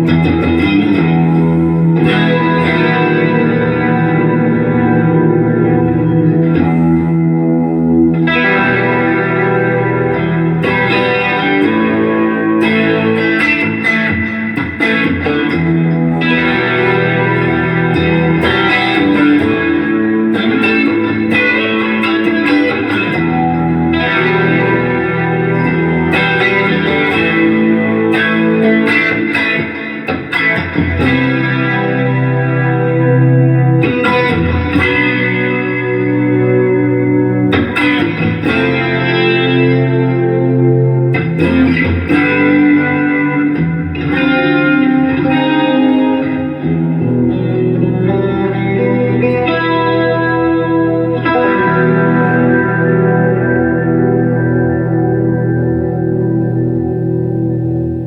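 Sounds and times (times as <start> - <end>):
electric guitar strummed chords: 0.0 - 58.0.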